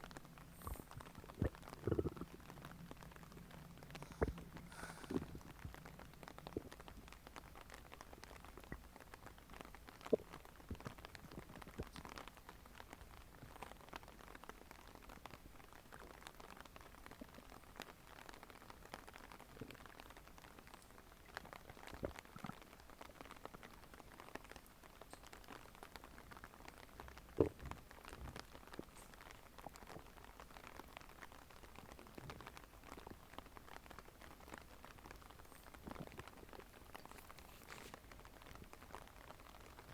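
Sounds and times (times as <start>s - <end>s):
low steady hiss: 0.0s - 39.9s
stomach gurgling: 0.0s - 39.9s.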